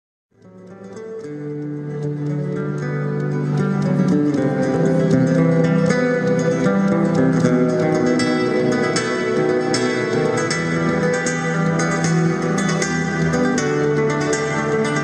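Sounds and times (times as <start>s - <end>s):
flamenco acoustic guitar: 0.4s - 15.0s.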